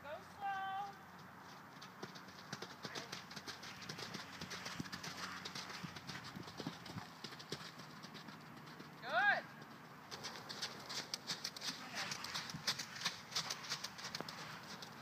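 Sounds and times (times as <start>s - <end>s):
horse hoofbeats on soft footing: 0.6s - 15.0s.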